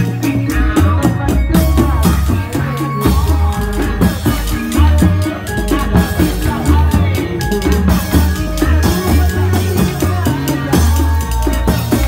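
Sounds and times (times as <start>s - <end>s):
deep bass notes: 0.0s - 12.0s
loud driving drums: 0.0s - 12.0s
melody of short high notes: 0.0s - 12.0s.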